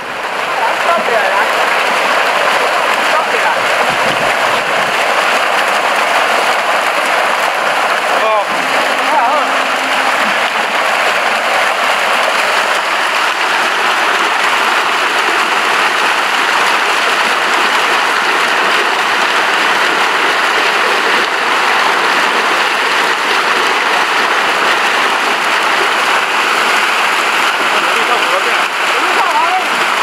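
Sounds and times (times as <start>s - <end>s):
fish splashing in shallow water: 0.0s - 30.0s.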